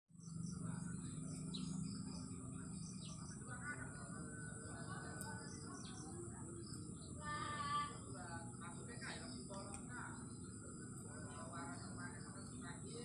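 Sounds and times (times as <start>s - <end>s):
small birds chirping: 0.1s - 13.0s
low background hum: 0.2s - 13.0s.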